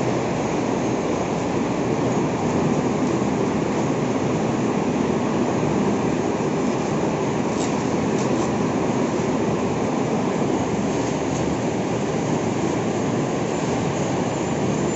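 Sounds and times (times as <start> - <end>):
loud machinery drone: 0.0 - 14.9.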